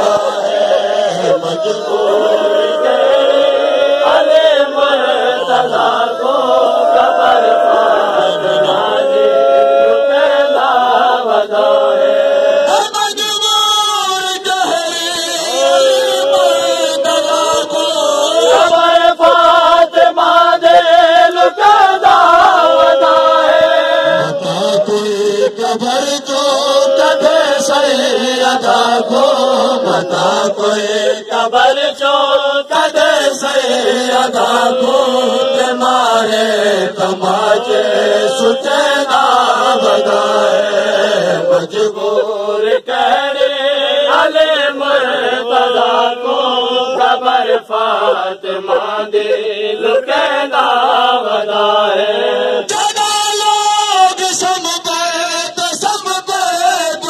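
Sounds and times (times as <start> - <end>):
man chanting a lament: 0.0 - 57.0.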